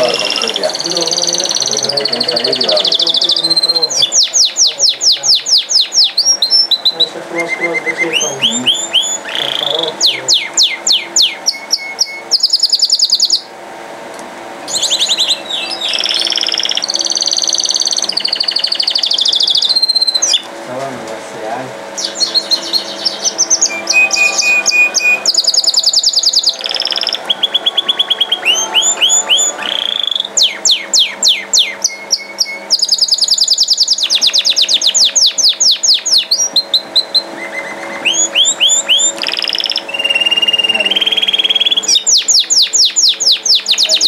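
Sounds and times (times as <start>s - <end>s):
canary singing trills: 0.0s - 13.6s, 14.6s - 20.6s, 21.4s - 44.0s.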